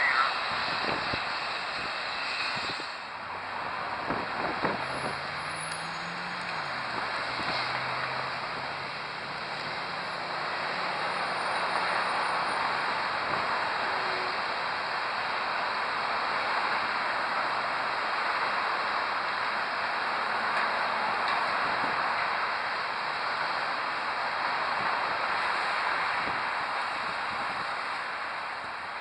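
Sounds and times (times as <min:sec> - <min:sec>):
road traffic tyre hiss: 0:00.0 - 0:29.0.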